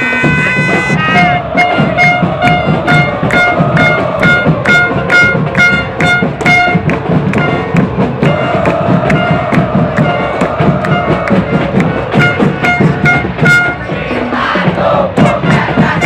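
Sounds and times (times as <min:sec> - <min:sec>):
horn short notes: 0:00.0 - 0:13.9
crowd chanting: 0:00.0 - 0:16.0
drums beating: 0:00.0 - 0:16.0.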